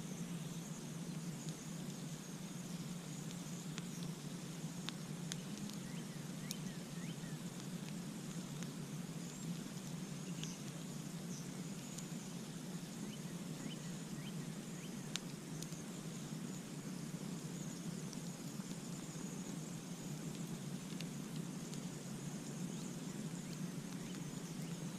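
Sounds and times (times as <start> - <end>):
campfire crackling and popping: 0.1 - 24.9.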